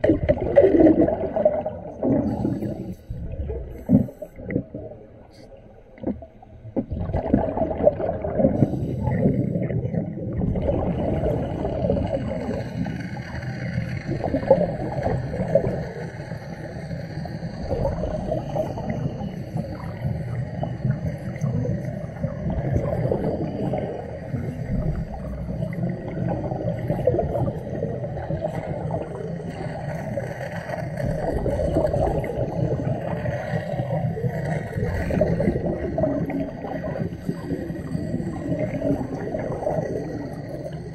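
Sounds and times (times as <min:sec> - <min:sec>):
gas bubbling underwater: 0:00.0 - 0:40.9.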